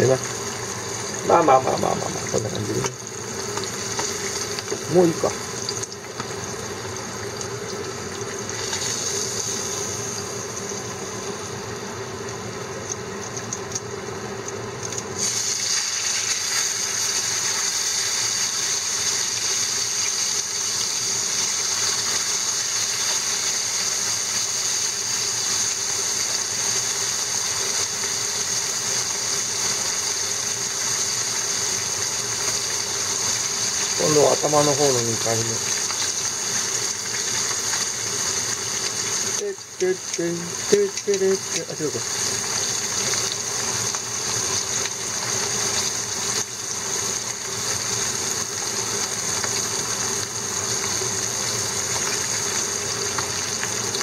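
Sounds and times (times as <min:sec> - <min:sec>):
fish deep-frying in hot oil: 0:00.0 - 0:54.0.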